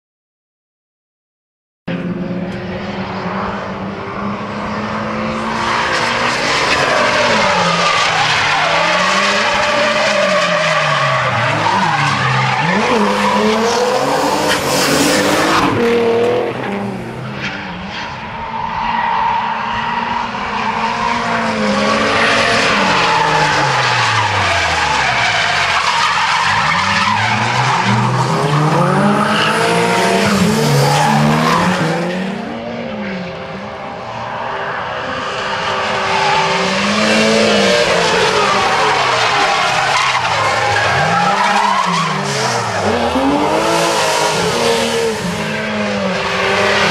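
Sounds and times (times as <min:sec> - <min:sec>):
car engines revving: 0:01.9 - 0:46.9.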